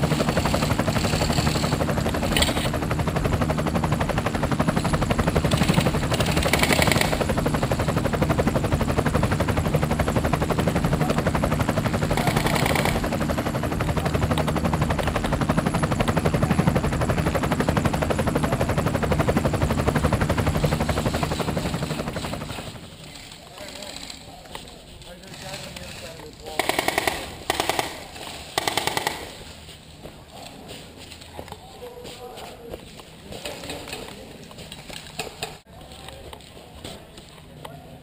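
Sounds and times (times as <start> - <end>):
helicopter rotor chop: 0.0 - 37.2.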